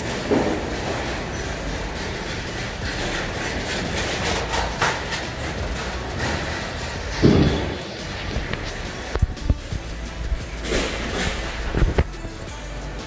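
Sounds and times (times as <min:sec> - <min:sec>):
scattered clatter: 0:00.0 - 0:12.2
steady mechanical din: 0:00.0 - 0:12.6.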